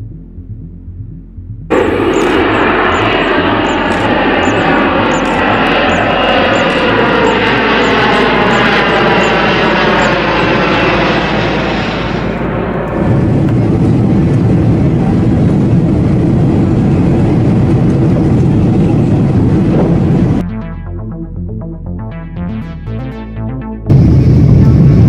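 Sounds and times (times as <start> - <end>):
jet engines whining: 0.0 - 25.0
low hum: 0.0 - 25.0.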